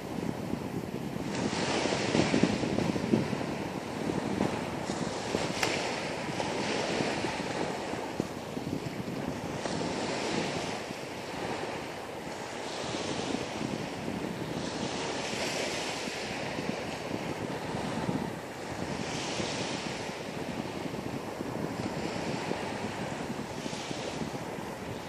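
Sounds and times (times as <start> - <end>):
waves washing in: 0.0 - 25.0
wind rumbling on microphone: 0.0 - 25.0.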